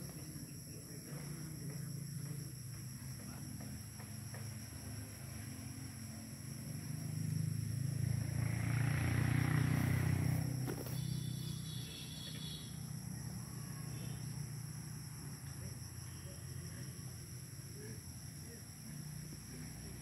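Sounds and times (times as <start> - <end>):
distant vehicle rumble: 0.0 - 20.0.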